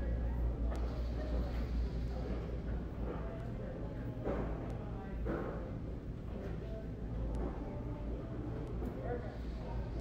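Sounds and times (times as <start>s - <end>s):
faint indistinct voices: 0.0s - 10.0s.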